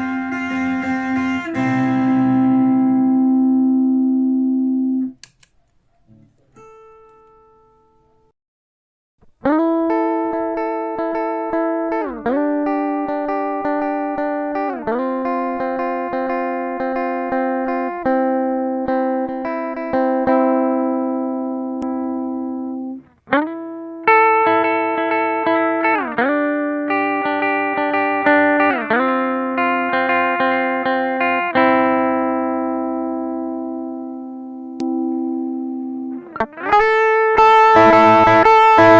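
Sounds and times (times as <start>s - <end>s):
electric guitar arpeggio: 0.0s - 5.2s, 9.4s - 38.9s.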